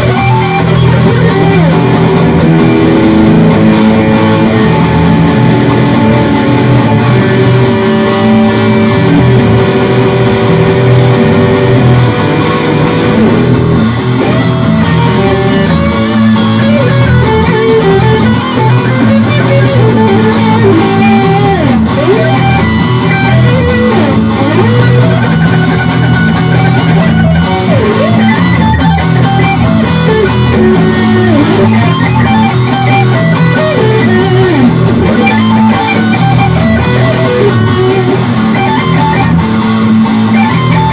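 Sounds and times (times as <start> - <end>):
electric guitar hard rock: 0.0 - 40.9
low bass line: 0.0 - 40.9.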